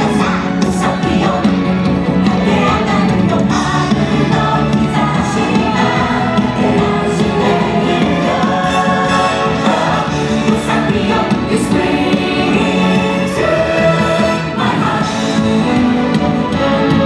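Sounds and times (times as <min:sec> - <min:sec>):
show music with group singing: 0:00.0 - 0:17.0.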